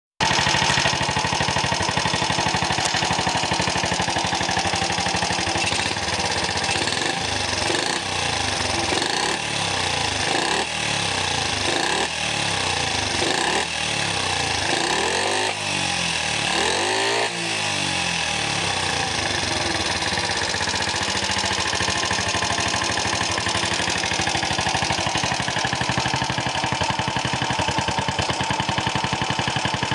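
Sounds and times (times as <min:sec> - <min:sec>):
motorcycle engine idling and revving: 0:00.2 - 0:29.9.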